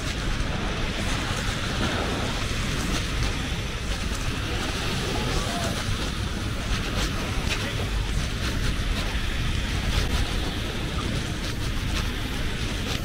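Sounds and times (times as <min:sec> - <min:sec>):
surf washing on beach: 0:00.0 - 0:13.0
wind buffeting microphone: 0:00.0 - 0:13.0.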